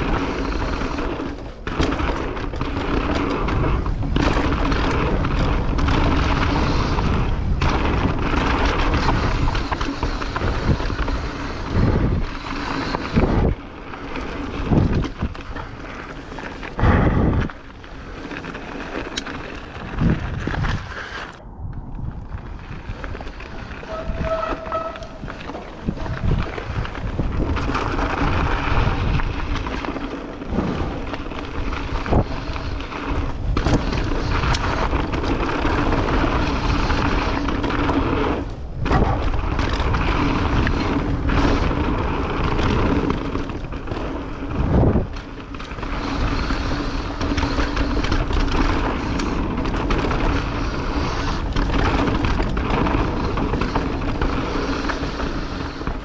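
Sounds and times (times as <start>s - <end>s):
bike rattling: 0.0s - 56.0s
bike tyre and drivetrain noise: 0.0s - 56.0s
wind on microphone: 0.0s - 56.0s.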